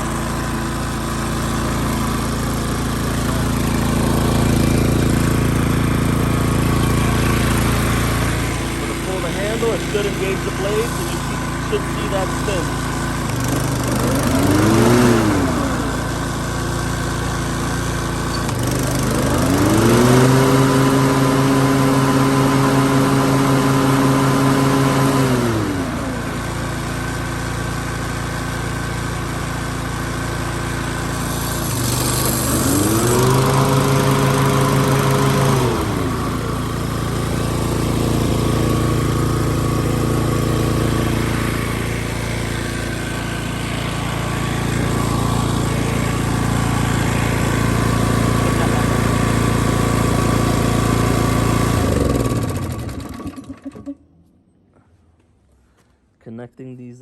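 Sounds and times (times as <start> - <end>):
lawn mower engine running: 0.0 - 54.8.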